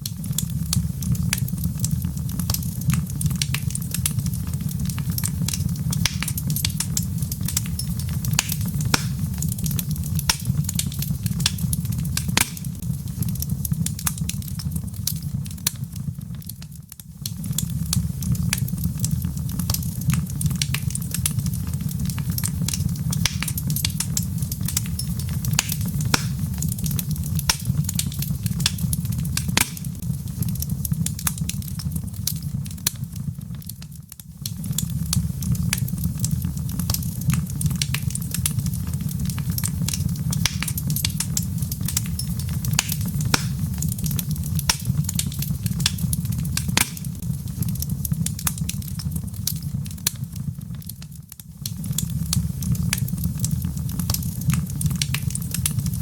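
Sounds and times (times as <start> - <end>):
log fire crackling and popping: 0.0 - 56.0
low rumble of flames: 0.0 - 56.0.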